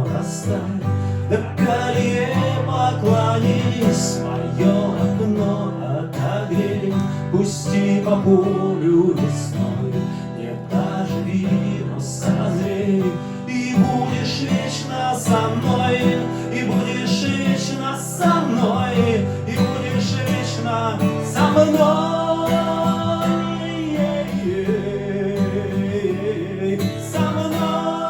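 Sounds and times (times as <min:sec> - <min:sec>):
acoustic guitar strumming: 0:00.0 - 0:28.0
person singing: 0:00.0 - 0:28.0.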